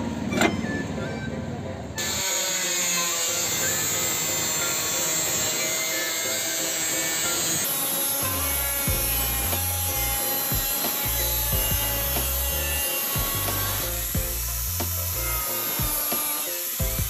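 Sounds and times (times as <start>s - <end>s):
angle grinder grinding steel: 2.0s - 17.0s.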